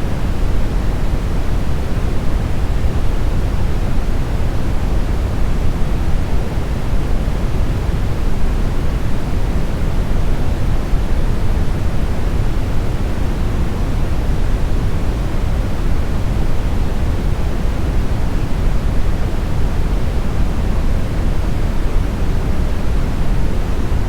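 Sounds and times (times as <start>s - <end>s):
brown noise hiss: 0.0s - 24.0s.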